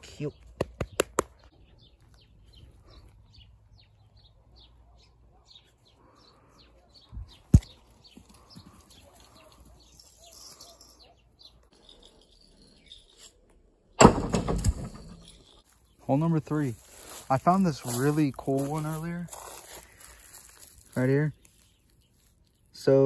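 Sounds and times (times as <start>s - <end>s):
small birds chirping: 0.0s - 14.0s, 15.1s - 23.0s.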